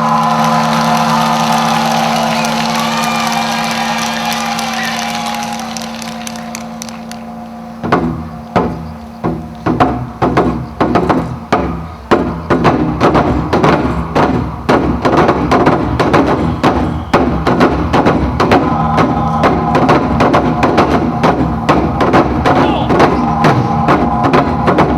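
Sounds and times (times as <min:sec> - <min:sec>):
hard drum strokes: 0:00.0 - 0:24.9.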